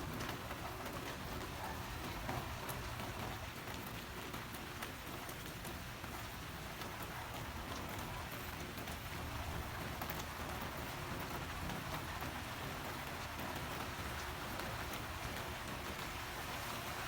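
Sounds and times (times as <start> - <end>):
rain falling: 0.0 - 17.0
raindrops ticking on surface: 0.0 - 17.0.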